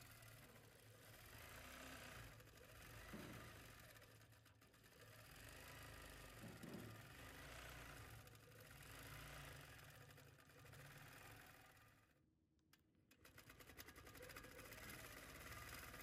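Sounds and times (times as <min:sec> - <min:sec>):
quilting machine hum: 0:00.0 - 0:12.1, 0:13.1 - 0:16.0.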